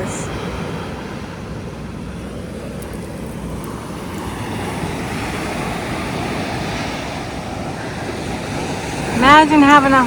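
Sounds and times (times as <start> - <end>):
surf on pebble beach: 0.0 - 10.0
wind rumble on microphone: 0.0 - 10.0.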